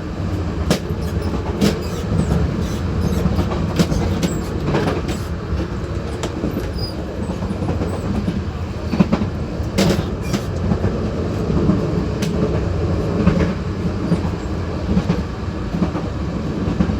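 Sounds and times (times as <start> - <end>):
train running rumble: 0.0 - 16.9
wheels clacking over rails: 0.0 - 16.9.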